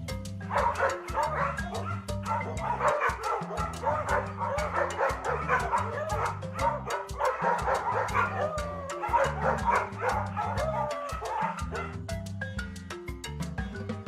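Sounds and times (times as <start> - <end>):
background music with bass line: 0.0 - 14.0
sharp percussive clicks: 0.0 - 14.0
animal yips and whines: 0.5 - 12.0.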